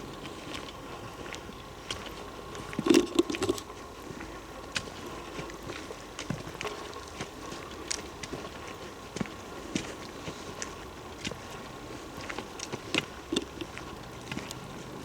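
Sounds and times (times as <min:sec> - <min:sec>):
faint steady hum: 0:00.0 - 0:15.0
footsteps on forest trail: 0:00.0 - 0:15.0.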